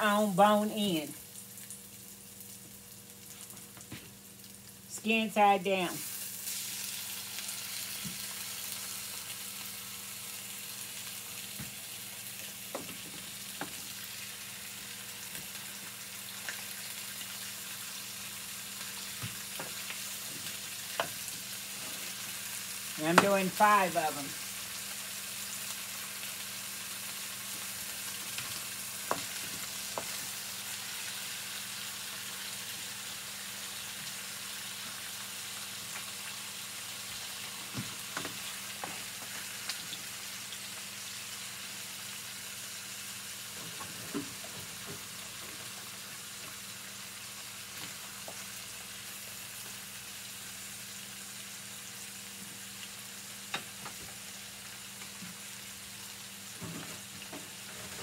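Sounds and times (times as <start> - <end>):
chicken sizzling in hot fat: 0.0 - 58.0.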